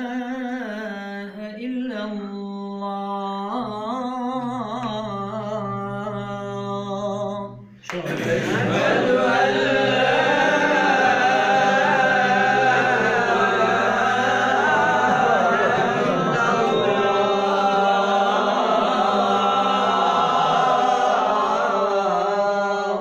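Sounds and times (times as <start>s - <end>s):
man chanting call to prayer: 0.0s - 23.0s.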